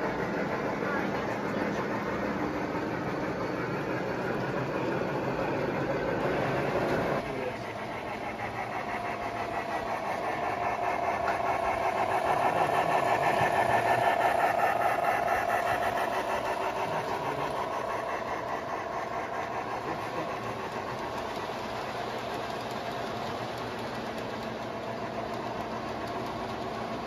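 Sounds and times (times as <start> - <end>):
model train running on track: 0.0 - 27.0.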